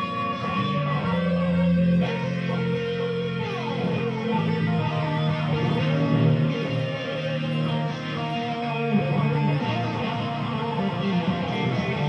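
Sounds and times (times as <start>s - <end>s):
electric guitar lead melody: 0.0s - 12.0s.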